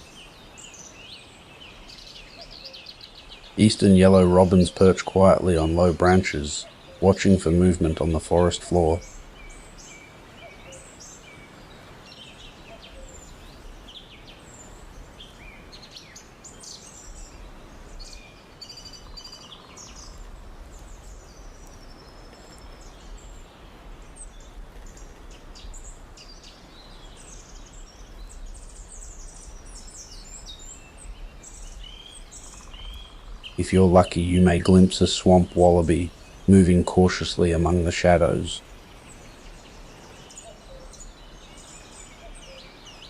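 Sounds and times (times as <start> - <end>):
birds chirping and trilling: 0.0 - 43.0
faint steady hiss: 0.0 - 43.0.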